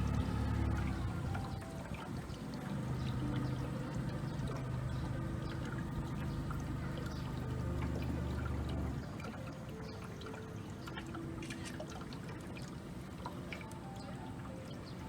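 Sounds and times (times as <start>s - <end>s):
boat motor humming: 0.0s - 15.0s
water splashing along hull: 0.0s - 15.0s.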